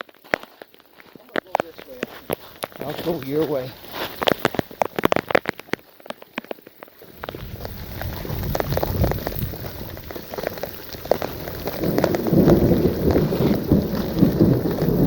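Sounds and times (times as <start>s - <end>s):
rain drops ticking: 0.0s - 15.0s.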